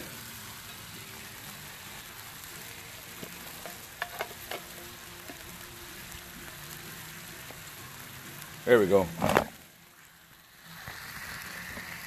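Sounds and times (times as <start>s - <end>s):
steak sizzling on a griddle: 0.0s - 12.0s.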